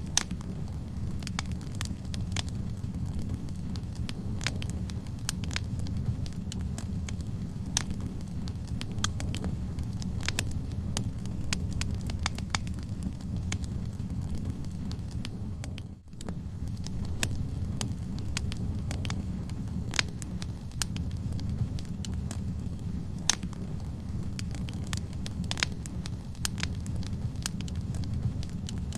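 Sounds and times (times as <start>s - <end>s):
burning logs crackling and popping: 0.0s - 28.9s
low rumble of flames: 0.0s - 28.9s.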